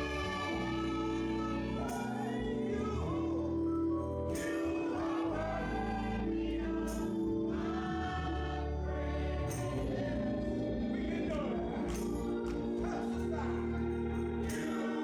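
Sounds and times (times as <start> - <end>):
instrumental accompaniment chords: 0.0 - 15.0
voices singing gospel: 0.0 - 15.0.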